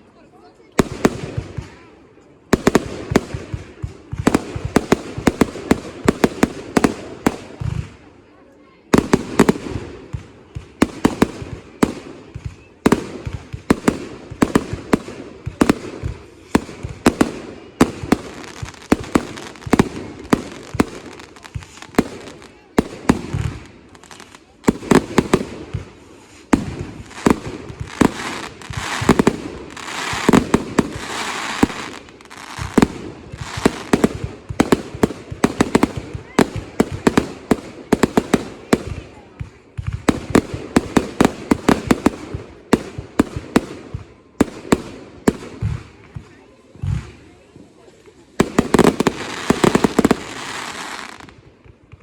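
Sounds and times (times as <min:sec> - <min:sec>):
fireworks bangs: 0:02.5 - 0:08.1, 0:08.9 - 0:47.3, 0:48.2 - 0:52.0
hissing firework bursts: 0:08.9 - 0:39.2, 0:39.8 - 0:51.8.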